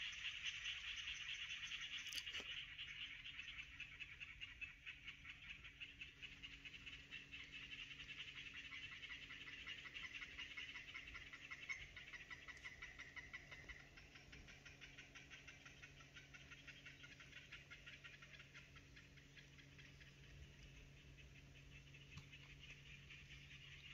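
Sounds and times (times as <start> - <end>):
animal chorus chirring: 0.2 - 23.9.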